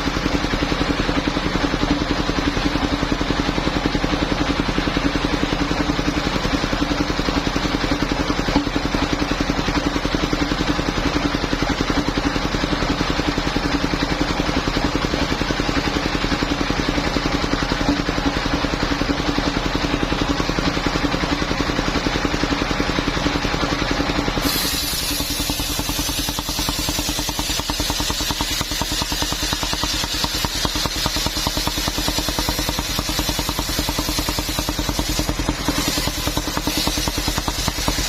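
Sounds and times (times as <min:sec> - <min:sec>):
engine-driven circular sawmill running: 0:00.0 - 0:38.0.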